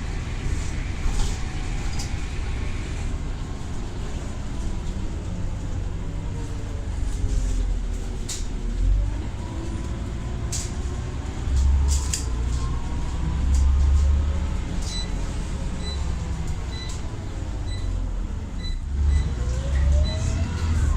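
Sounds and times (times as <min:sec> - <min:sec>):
bus engine rumble: 0:00.0 - 0:20.9.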